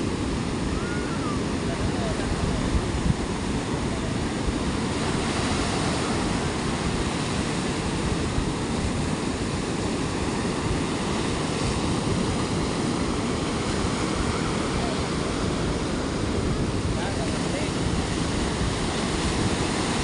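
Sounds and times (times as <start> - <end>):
waves breaking on sand beach: 0.0 - 20.0.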